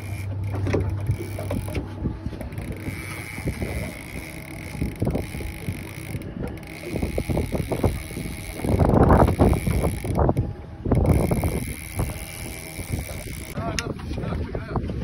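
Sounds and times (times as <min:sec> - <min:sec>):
boat motor running: 0:00.0 - 0:15.0
wind noise on microphone: 0:00.0 - 0:15.0.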